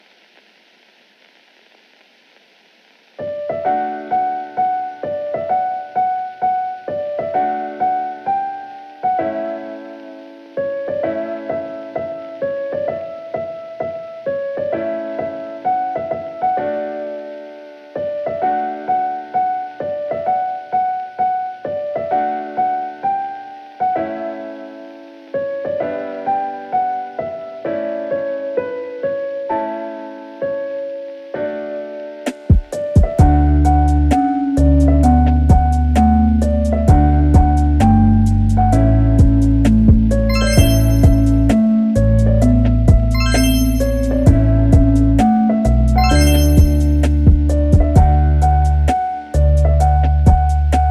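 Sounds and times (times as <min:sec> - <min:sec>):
faint hiss: 0:00.0 - 0:50.9
gentle piano melody: 0:03.2 - 0:50.9.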